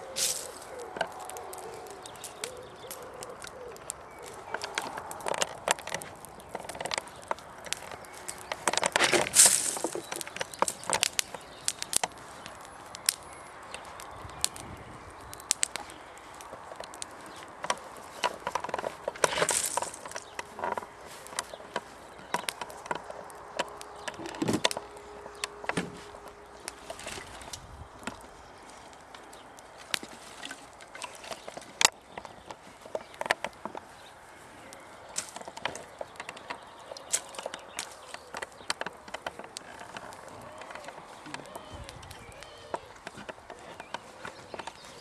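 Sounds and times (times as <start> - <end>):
open fire crackling: 0.0 - 45.0.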